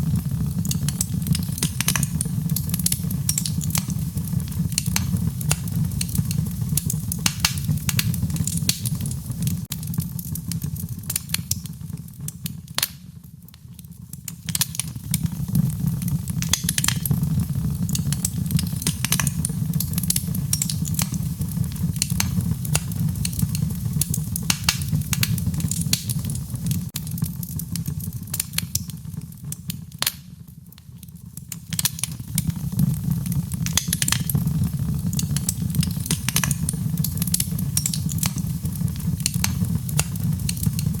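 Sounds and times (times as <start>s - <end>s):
low rumble of flames: 0.0s - 41.0s
wood fire crackling and popping: 0.0s - 41.0s.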